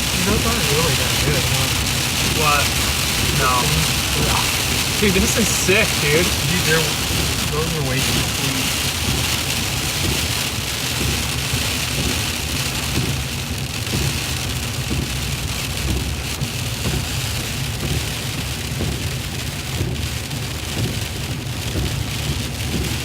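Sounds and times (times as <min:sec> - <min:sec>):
car and road rumble: 0:00.0 - 0:23.0
tyres hissing on wet road: 0:00.0 - 0:23.0.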